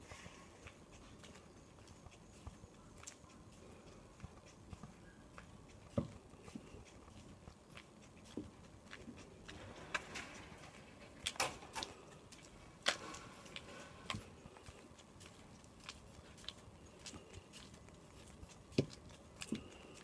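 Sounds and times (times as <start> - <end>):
footsteps on asphalt: 0.0 - 20.0.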